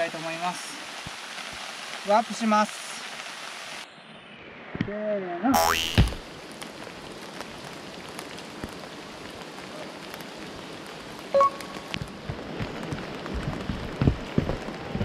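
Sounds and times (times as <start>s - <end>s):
rain on wooden boardwalk: 0.0s - 15.0s.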